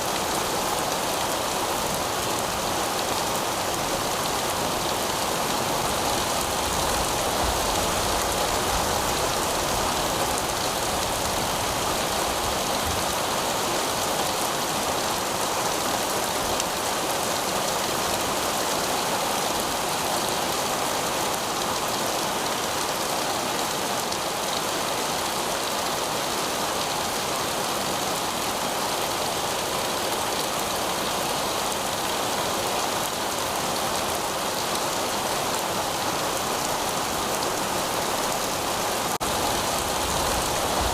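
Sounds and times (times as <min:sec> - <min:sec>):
heavy rain on pavement: 0:00.0 - 0:40.9.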